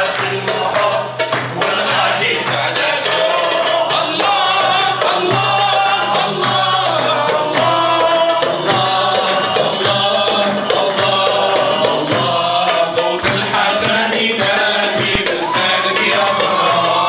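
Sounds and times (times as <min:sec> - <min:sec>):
crowd clapping along: 0:00.0 - 0:17.0
hand drum: 0:00.0 - 0:17.0
men singing through microphones: 0:00.0 - 0:17.0.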